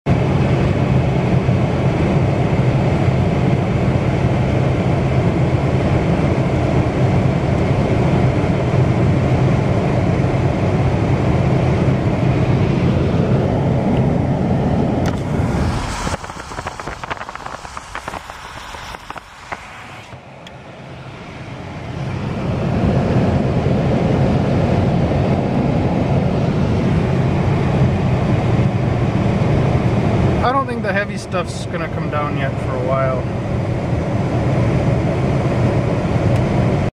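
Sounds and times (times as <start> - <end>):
truck road and engine drone: 0.1 - 36.9.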